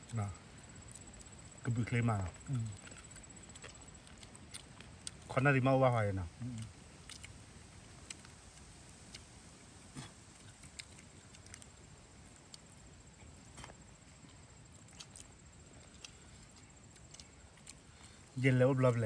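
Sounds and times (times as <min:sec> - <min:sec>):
faint clicks and rustles of eating: 0:00.0 - 0:19.0.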